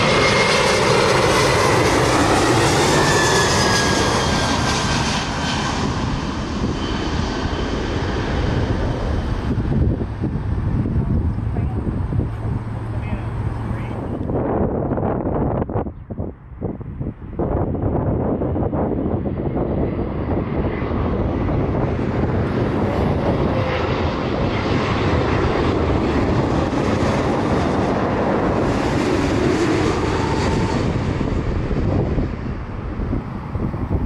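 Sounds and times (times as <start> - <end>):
faint falling engine whine: 0.0 - 34.0
jet airliner passing overhead: 0.0 - 34.0.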